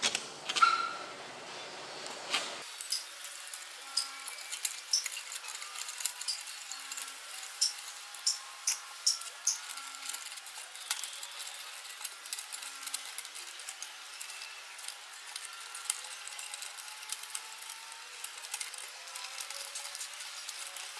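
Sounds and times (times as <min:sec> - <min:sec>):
metal wire spirals clicking and scraping: 0:02.6 - 0:20.9.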